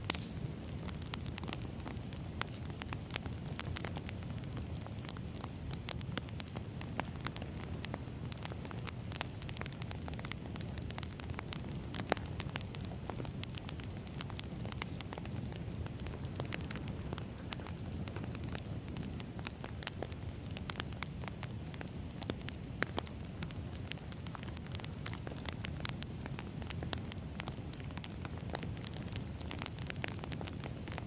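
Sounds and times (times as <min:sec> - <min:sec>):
firewood crackling and popping: 0:00.0 - 0:31.0.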